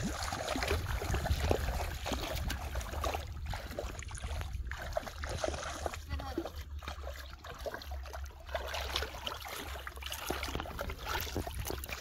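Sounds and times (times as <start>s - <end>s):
feet splashing through muddy water: 0.0s - 12.0s
steady low rumble: 0.0s - 12.0s.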